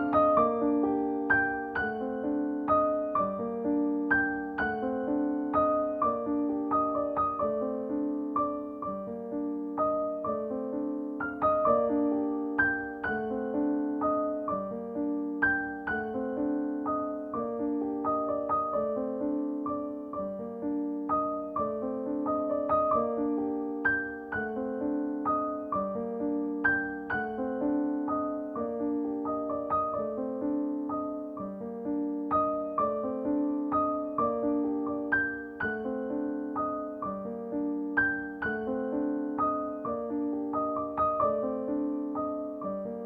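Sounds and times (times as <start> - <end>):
gentle piano music: 0.0 - 43.0.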